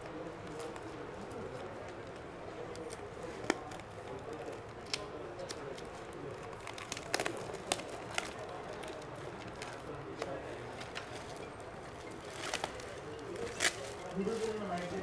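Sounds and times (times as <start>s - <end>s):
shrink wrap crackling: 0.4s - 15.0s.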